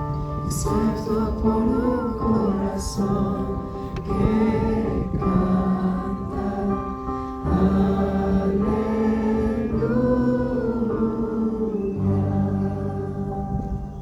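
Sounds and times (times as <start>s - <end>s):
sustained chords: 0.0s - 14.0s
group singing worship song: 0.4s - 14.0s.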